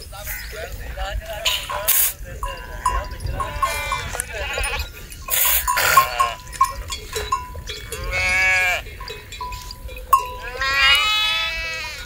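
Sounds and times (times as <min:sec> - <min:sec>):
small livestock bells ringing: 0:00.2 - 0:12.0
sheep bleating: 0:01.4 - 0:09.2, 0:10.1 - 0:12.0.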